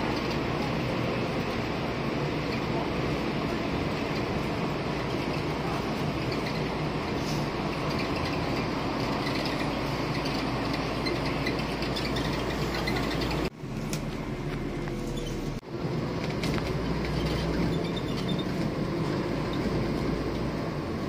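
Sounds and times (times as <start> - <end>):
bus diesel engine droning: 0.0 - 21.0
road noise: 0.0 - 21.0.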